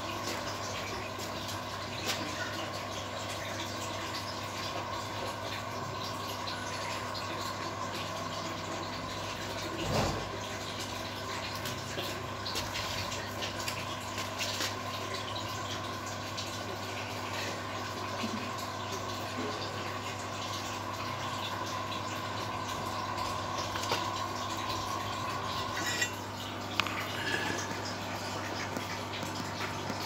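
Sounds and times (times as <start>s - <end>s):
aquarium bubbling underwater: 0.0s - 30.0s.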